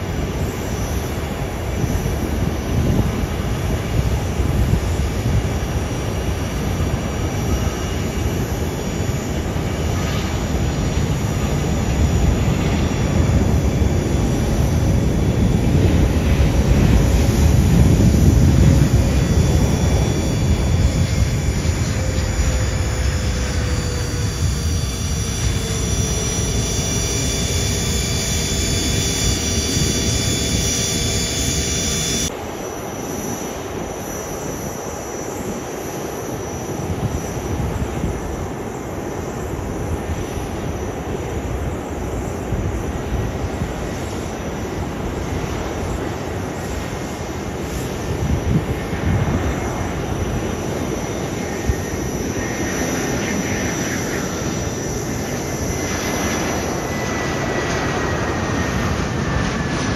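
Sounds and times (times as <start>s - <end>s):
airliner rumble: 0.0s - 59.9s
jet engines whining: 0.0s - 59.9s.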